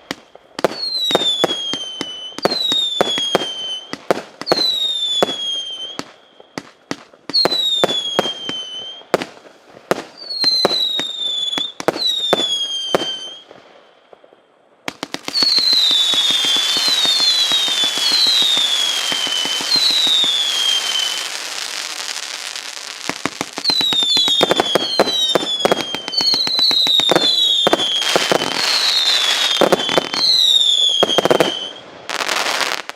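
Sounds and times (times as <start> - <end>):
firework crackling: 0.0 - 13.5, 14.9 - 32.9
falling firework whistles: 0.0 - 14.2, 14.9 - 32.9.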